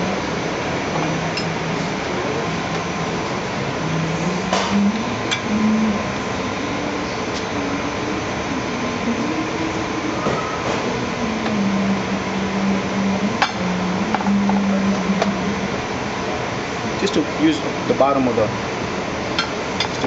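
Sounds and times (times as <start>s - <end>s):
kitchen ventilation fan: 0.0s - 20.0s.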